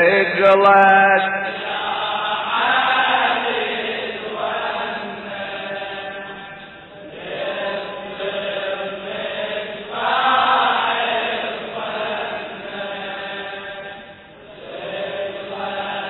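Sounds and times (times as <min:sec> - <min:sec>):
voices chanting a lament: 0:00.0 - 0:16.0.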